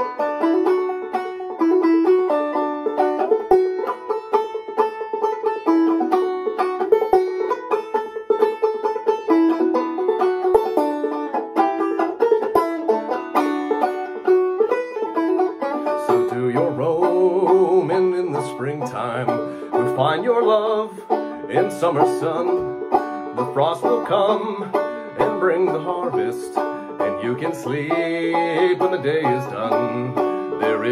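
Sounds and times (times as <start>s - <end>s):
banjo plucking: 0.0s - 30.9s.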